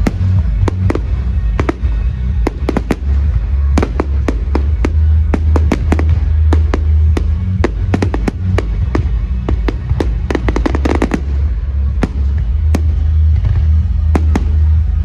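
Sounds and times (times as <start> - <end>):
fireworks bangs and cracks: 0.0 - 15.0
loud music with heavy bass: 0.0 - 15.0.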